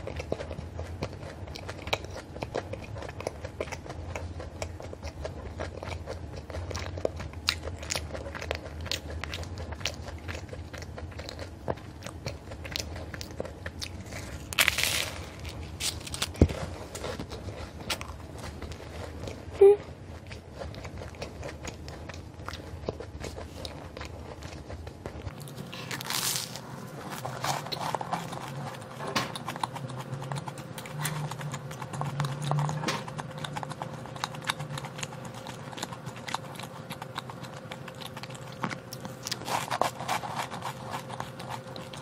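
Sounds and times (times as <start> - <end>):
chewing and crunching pastry: 0.0 - 42.0
faint steady hum: 0.0 - 42.0.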